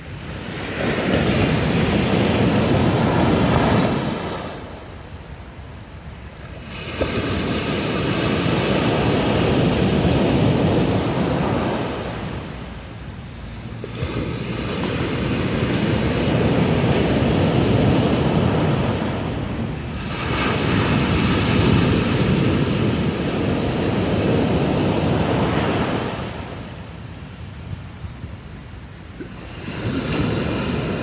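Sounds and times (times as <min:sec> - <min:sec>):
sea waves washing: 0:00.0 - 0:31.0.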